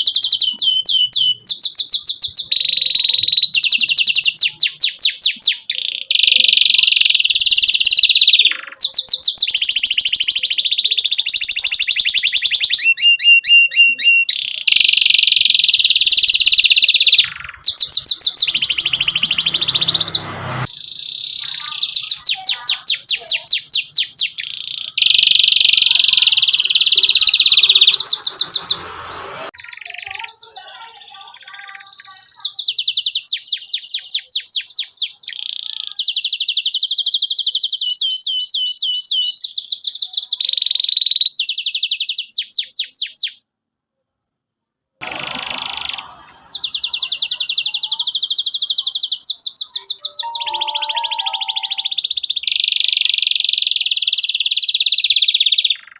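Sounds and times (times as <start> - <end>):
canary singing: 0.0 - 43.4, 45.7 - 55.9.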